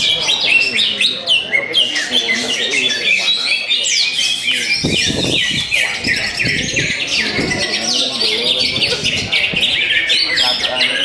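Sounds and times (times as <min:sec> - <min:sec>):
chorus of birds chirping: 0:00.0 - 0:11.0.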